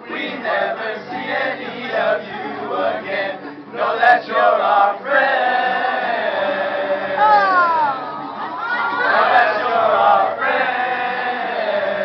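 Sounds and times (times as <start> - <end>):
boys singing in unison: 0.0 - 7.8, 8.9 - 12.0
acoustic guitar: 0.0 - 12.0.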